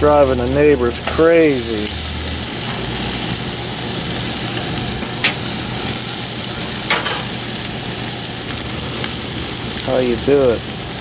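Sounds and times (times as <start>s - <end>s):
chicken sizzling over charcoal: 0.0s - 11.0s.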